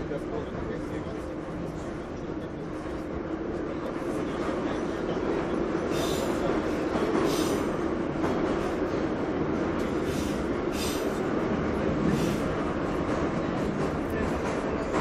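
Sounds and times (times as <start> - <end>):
train wheels and motors rumbling: 0.0 - 15.0.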